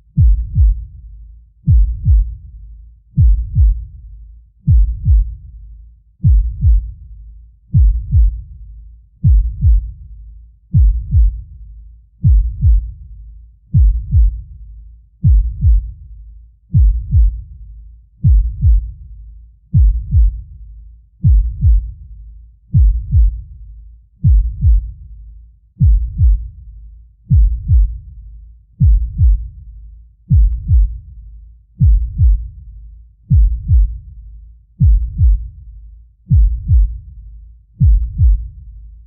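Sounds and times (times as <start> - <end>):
deep slow heartbeat thumps: 0.0 - 5.6, 6.2 - 7.1, 7.7 - 10.1, 10.7 - 13.0, 13.7 - 16.1, 16.7 - 19.0, 19.7 - 22.0, 22.7 - 25.1, 25.8 - 26.7, 27.3 - 28.2, 28.8 - 31.2, 31.8 - 39.0.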